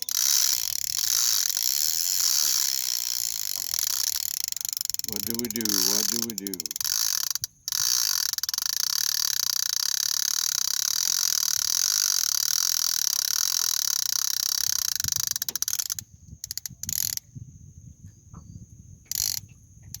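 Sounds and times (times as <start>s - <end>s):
fishing reel clicker buzzing: 0.0s - 17.2s, 19.1s - 20.0s.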